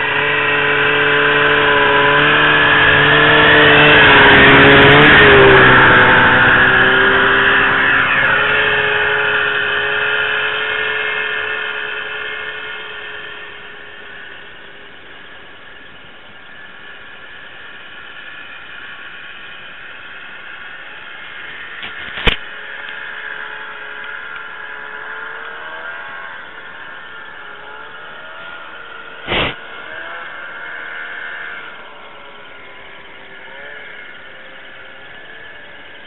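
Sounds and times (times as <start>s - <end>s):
snowmobile engine whine: 0.0s - 36.0s.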